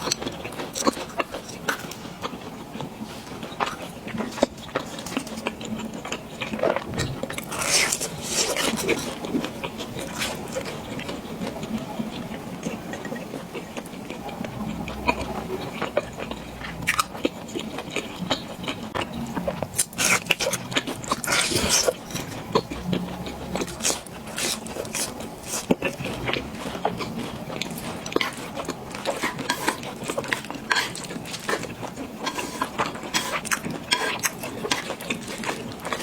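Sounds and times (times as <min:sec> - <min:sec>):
person chewing food: 0:00.0 - 0:36.0.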